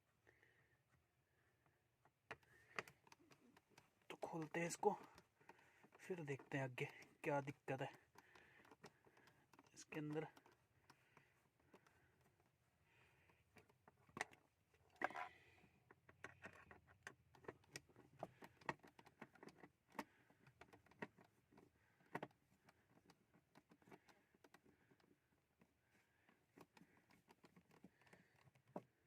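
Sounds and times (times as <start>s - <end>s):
faint clicks and metallic knocks: 1.4s - 29.0s.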